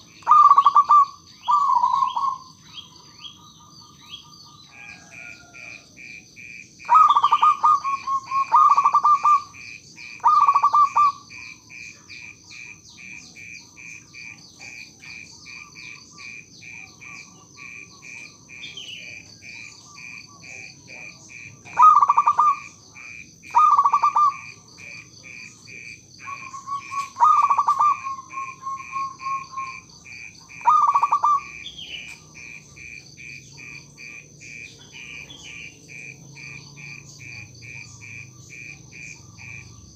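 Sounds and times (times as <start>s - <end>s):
dove cooing: 0.0s - 5.9s, 6.8s - 39.9s
rhythmic chirping: 6.4s - 39.9s.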